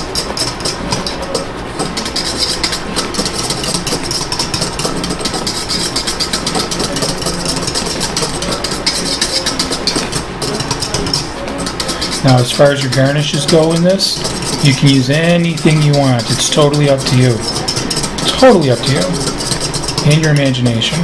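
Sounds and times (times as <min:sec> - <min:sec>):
whisk beating in metal bowl: 0:00.0 - 0:21.0.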